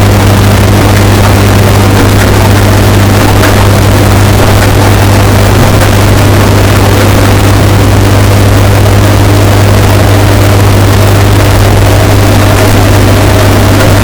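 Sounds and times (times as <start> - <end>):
harsh hiss: 0.0 - 14.0
washing machine humming: 0.0 - 14.0.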